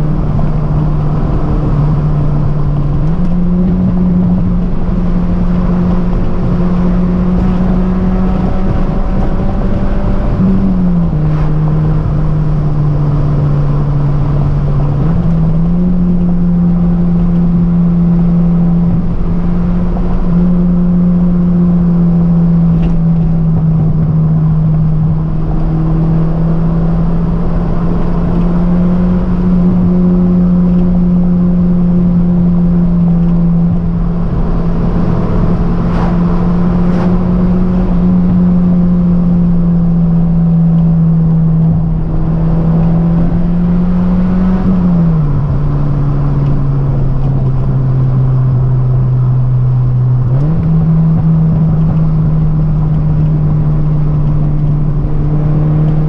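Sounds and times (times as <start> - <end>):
car engine running: 0.0 - 56.0
road noise: 0.0 - 56.0.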